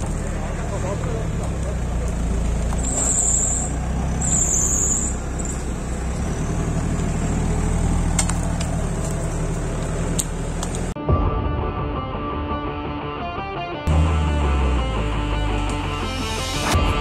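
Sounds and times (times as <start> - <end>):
vehicle engine running: 0.0 - 11.0, 13.9 - 17.0.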